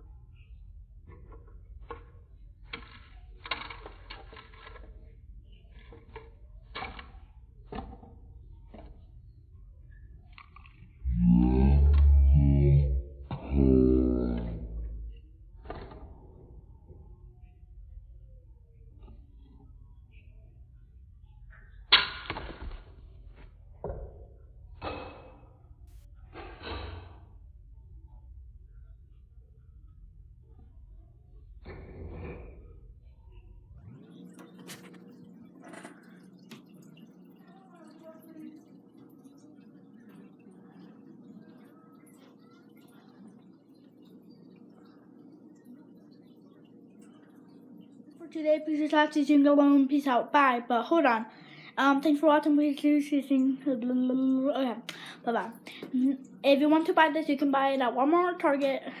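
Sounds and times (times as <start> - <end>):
low hum: 0.0 - 48.5.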